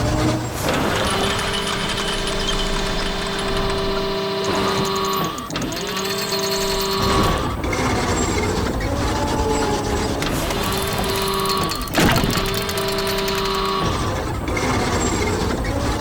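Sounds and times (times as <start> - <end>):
cartoon engine hum and whirr: 0.0 - 16.0.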